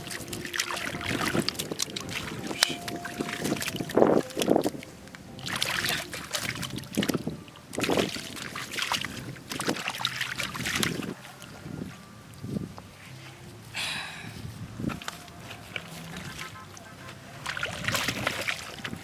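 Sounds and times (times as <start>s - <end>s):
water splashing and sloshing: 0.0s - 13.7s, 14.4s - 19.0s.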